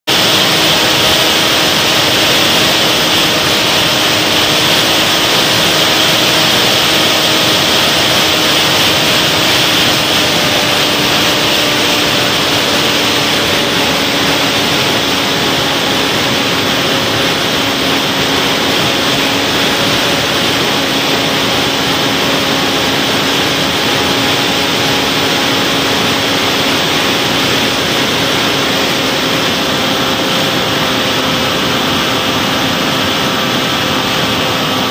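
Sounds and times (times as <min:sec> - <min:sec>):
airflow rush: 0:00.1 - 0:34.9
model aircraft motor and propeller: 0:00.1 - 0:34.9.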